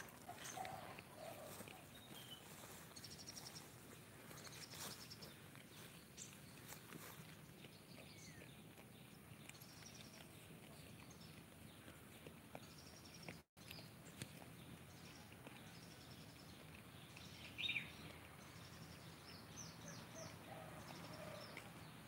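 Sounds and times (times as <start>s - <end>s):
goats chewing grass: 0.0s - 22.0s.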